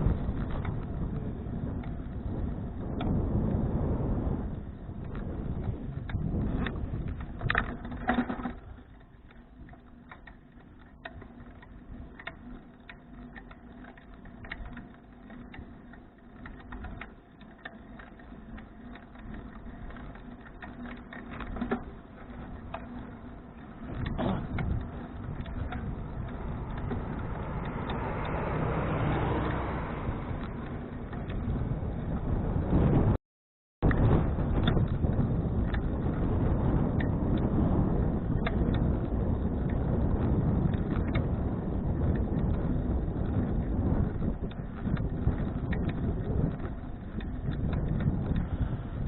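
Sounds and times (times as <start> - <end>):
bicycle clicks and rattles: 0.0 - 32.8, 33.8 - 49.0
bicycle bumps: 0.0 - 33.1, 33.8 - 49.0
wind noise on microphone: 0.0 - 33.2, 33.8 - 49.0.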